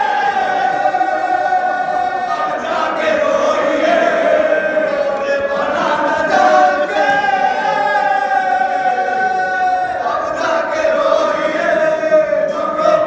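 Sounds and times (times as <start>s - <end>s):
men chanting an elegy: 0.0s - 13.0s.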